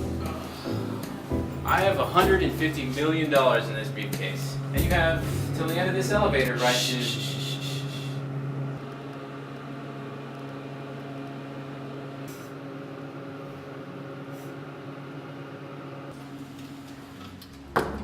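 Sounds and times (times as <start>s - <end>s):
steady low machine hum: 0.0s - 17.8s.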